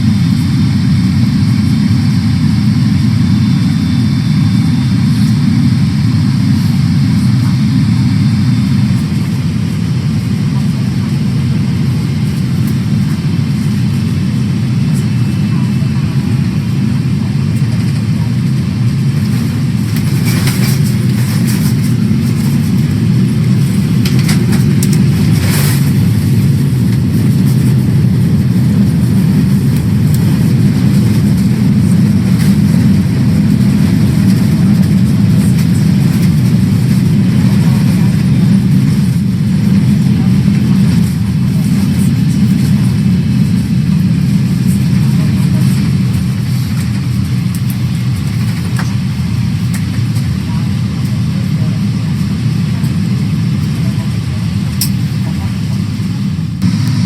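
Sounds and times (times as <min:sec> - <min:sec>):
airplane engines rumbling in cabin: 0:00.0 - 0:57.0.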